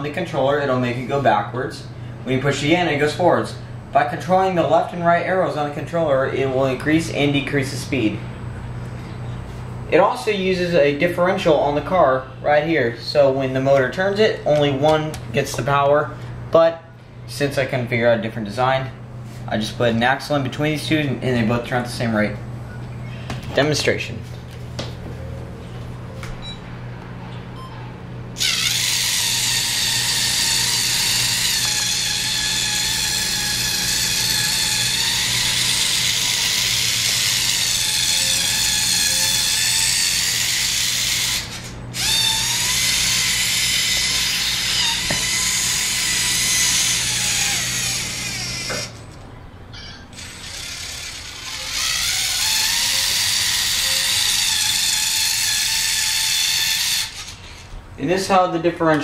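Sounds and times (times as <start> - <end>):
electric motor and gears whining: 0.0 - 16.6, 17.2 - 59.0.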